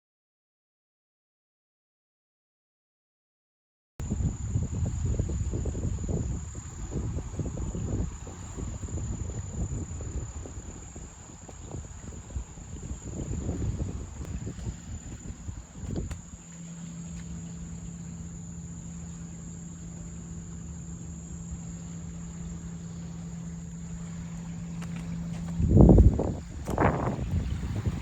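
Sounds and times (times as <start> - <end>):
insects trilling: 4.0 - 28.0
wind buffeting microphone: 4.0 - 28.0.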